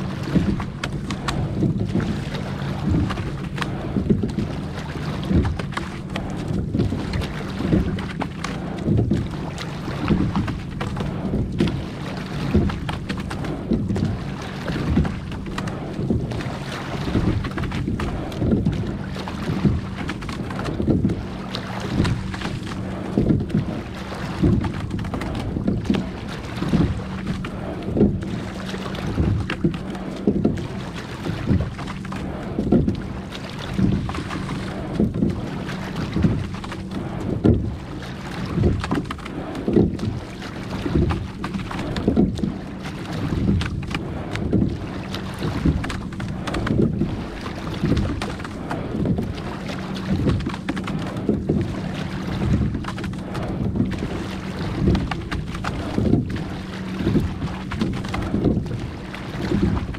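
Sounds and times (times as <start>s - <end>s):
oar strokes swishing and knocking: 0.0s - 59.9s
water: 0.0s - 59.9s
wind noise on microphone: 0.0s - 59.9s.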